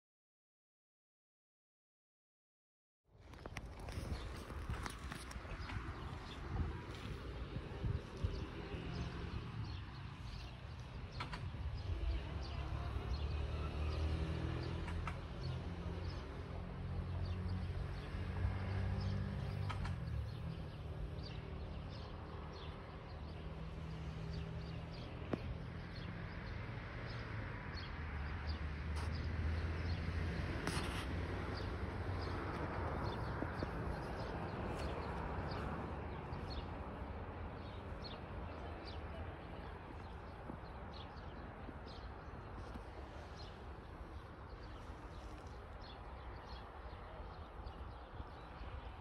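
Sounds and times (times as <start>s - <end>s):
small birds chirping: 3.3s - 30.0s, 30.6s - 49.0s.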